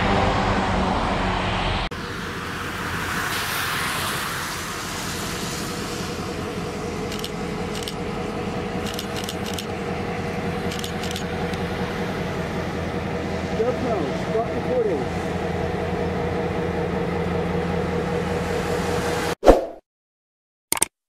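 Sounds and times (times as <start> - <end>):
diesel locomotive engine hum: 0.0 - 19.4.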